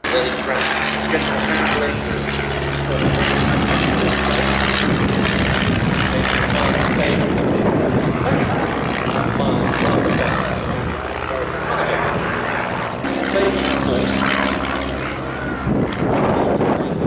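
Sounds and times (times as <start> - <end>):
biplane engine drone overhead: 0.0 - 17.0.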